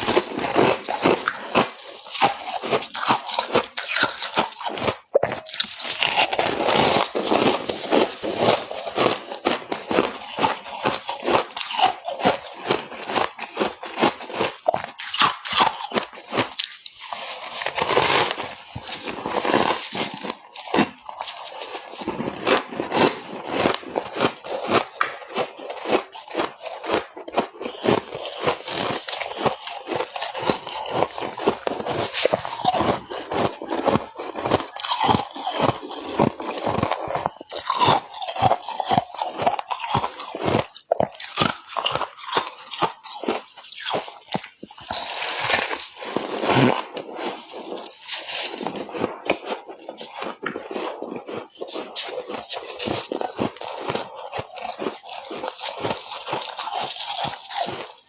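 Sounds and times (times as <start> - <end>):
frost crunching: 0.0 - 12.2, 15.0 - 22.5, 28.6 - 57.9.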